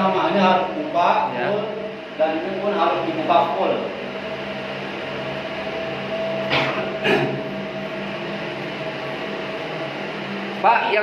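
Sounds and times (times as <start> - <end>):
pool pump humming: 0.0 - 11.0.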